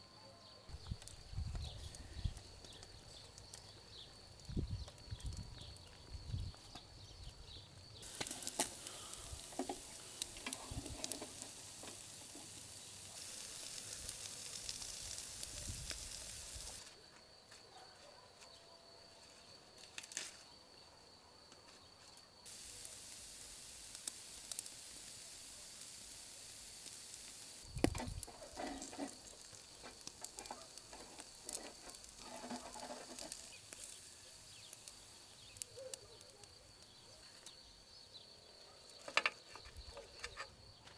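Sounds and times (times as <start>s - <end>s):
fire crackling: 0.7s - 17.0s, 22.4s - 40.3s
food sizzling over fire: 0.7s - 17.0s, 22.4s - 40.0s.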